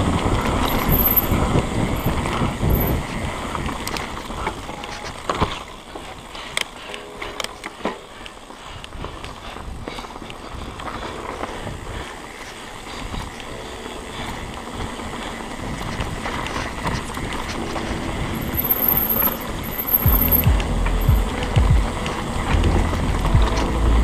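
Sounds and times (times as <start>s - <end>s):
bike rattling over bumps: 0.0s - 24.0s
bike tyres rolling on dirt: 0.0s - 24.0s
wind buffeting microphone: 0.0s - 24.0s.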